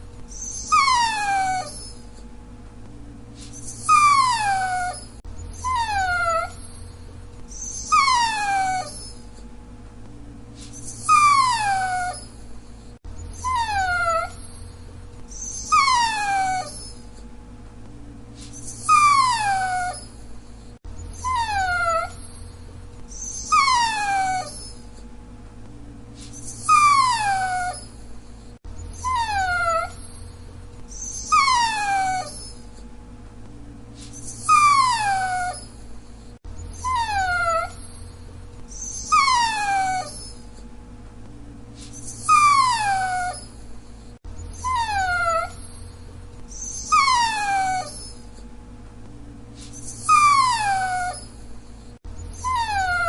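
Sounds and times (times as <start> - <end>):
faint steady hum: 0.0 - 53.0
dog whining: 0.2 - 2.3, 3.4 - 9.5, 10.6 - 17.3, 18.4 - 25.1, 26.2 - 32.9, 34.0 - 40.7, 41.8 - 48.5, 49.6 - 53.0.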